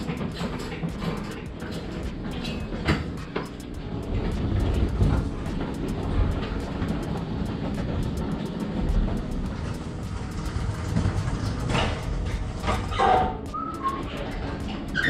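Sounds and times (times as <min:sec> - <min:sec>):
pallet truck wheels rumbling: 0:00.0 - 0:15.0
sharp clacks: 0:00.0 - 0:15.0.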